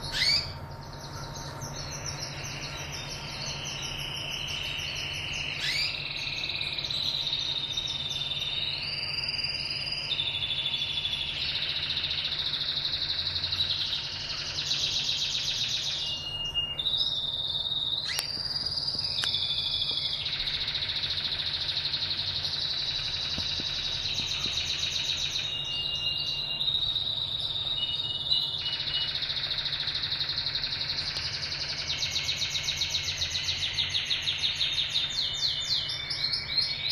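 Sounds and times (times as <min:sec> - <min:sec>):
canary singing trills: 0:00.0 - 0:36.9.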